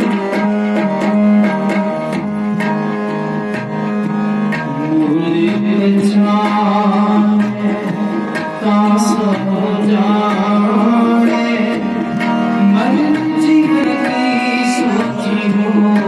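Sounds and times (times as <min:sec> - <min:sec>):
harmonium melody: 0:00.0 - 0:16.0
tabla beat: 0:00.0 - 0:16.0.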